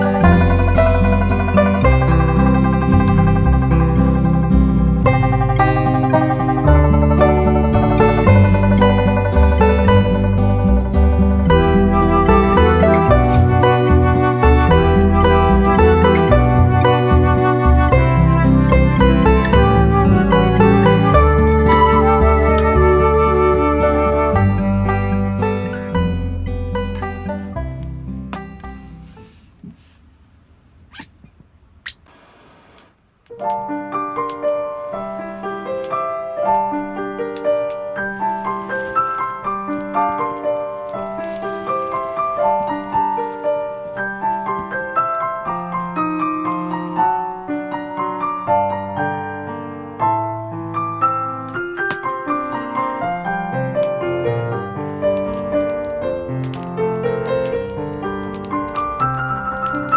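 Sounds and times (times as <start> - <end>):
piano music: 0.0 - 29.3, 33.3 - 59.9.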